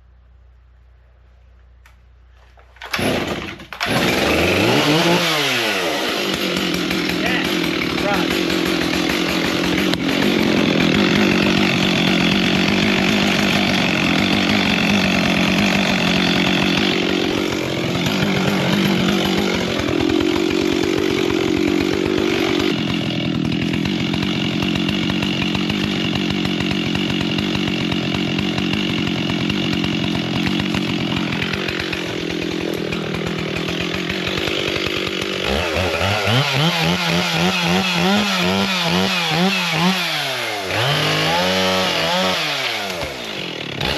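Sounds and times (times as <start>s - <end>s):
chainsaw cutting wood: 2.5s - 43.9s.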